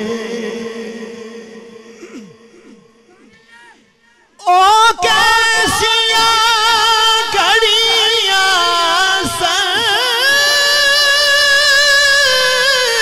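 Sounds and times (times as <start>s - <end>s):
man singing ornamented vocal line: 0.0s - 3.8s, 4.4s - 13.0s.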